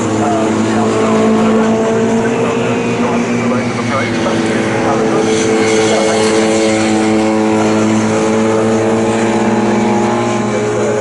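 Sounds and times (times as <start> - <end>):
engine droning: 0.0 - 11.0
noisy background: 0.0 - 11.0.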